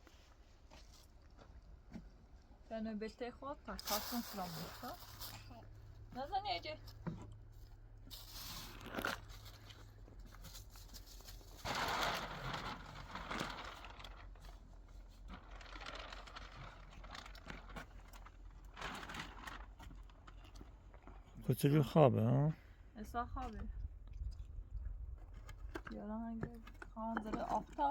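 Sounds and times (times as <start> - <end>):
rustling and crinkling handling: 3.8 - 22.1, 23.4 - 27.9.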